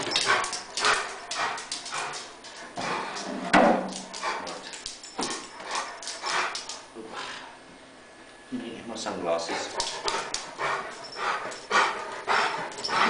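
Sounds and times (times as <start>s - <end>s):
dog breathing and scuffling: 0.0s - 7.5s, 9.3s - 13.0s.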